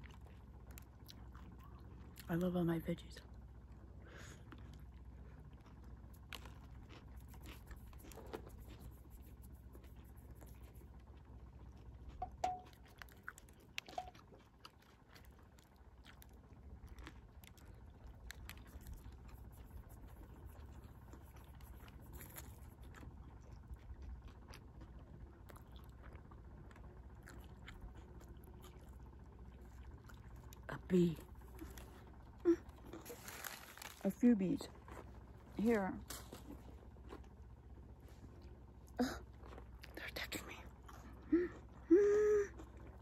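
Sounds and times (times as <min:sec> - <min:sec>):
person chewing crunchy food: 0:00.0 - 0:02.4, 0:03.3 - 0:34.1, 0:34.7 - 0:43.0
low steady rumble: 0:00.0 - 0:43.0.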